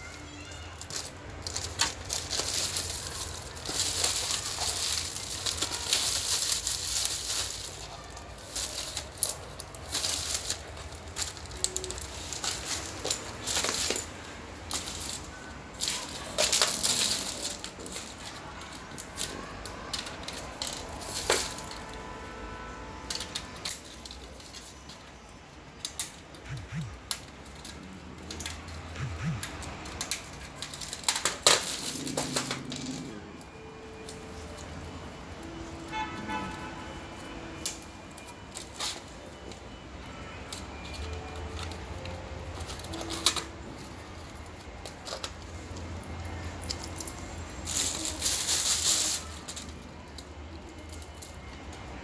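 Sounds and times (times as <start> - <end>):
plastic packaging crinkling: 0.0 - 35.5, 40.5 - 51.8.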